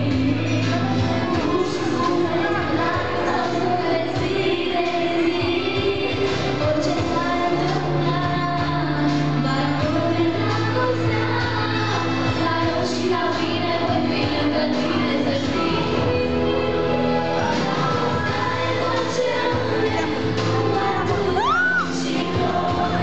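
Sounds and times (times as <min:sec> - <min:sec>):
woman singing into microphone: 0:00.0 - 0:23.0.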